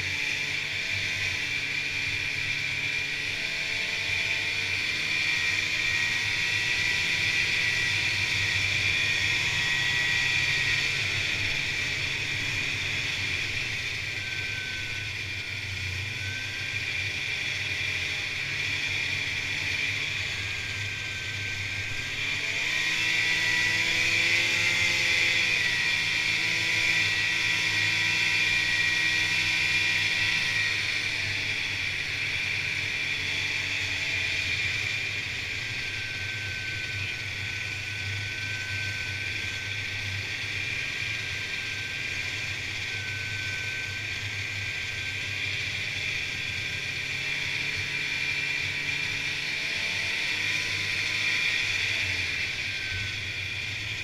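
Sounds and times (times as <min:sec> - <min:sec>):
snowmobile engine whine: 0:00.0 - 0:54.0.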